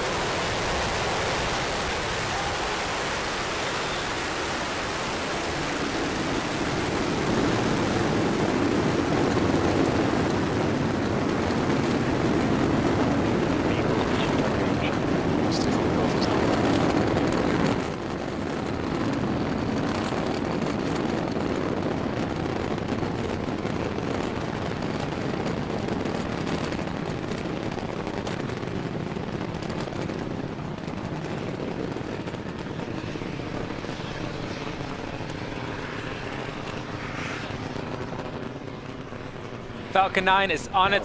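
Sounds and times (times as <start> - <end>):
rocket engines rumbling: 0.0 - 41.0.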